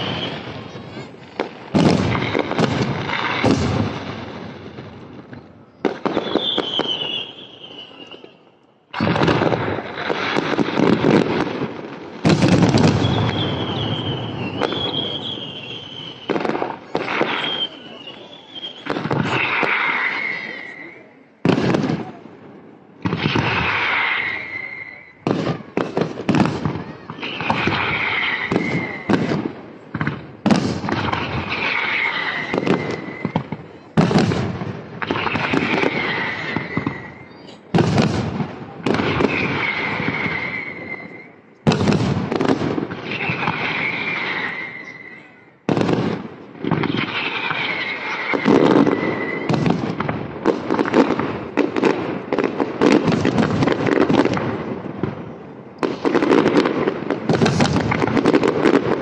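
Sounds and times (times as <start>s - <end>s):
fireworks crackling: 0.0s - 59.0s.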